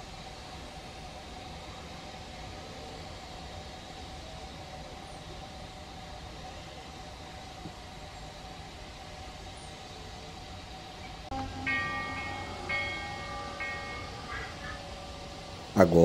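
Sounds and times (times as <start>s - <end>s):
faint locomotive hum: 0.0s - 16.0s
steam hissing: 0.0s - 16.0s.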